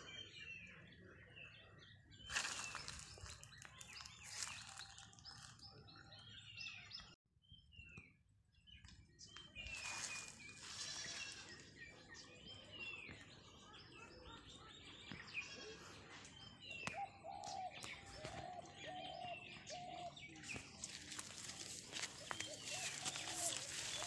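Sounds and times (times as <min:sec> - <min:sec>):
faint birdsong: 0:00.0 - 0:24.0.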